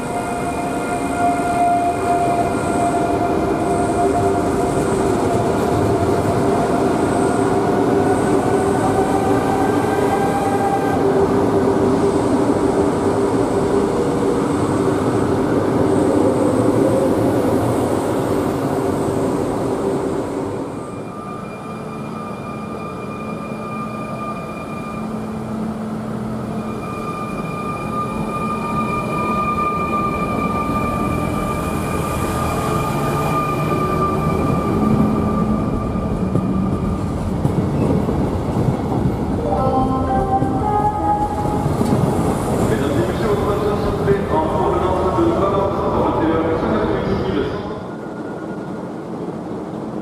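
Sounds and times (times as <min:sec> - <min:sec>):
electric train humming: 0:00.0 - 0:50.0.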